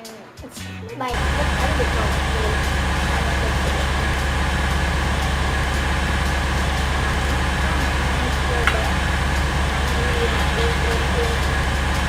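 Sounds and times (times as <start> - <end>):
low engine drone: 1.2 - 12.0.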